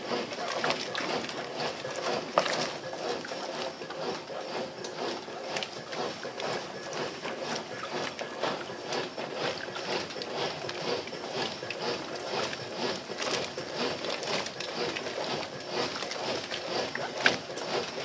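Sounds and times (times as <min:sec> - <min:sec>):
washing machine sloshing water: 0:00.0 - 0:18.0.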